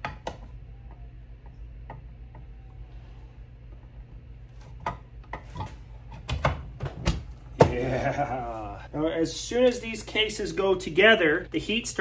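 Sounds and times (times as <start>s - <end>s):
low hum: 0.0s - 10.3s.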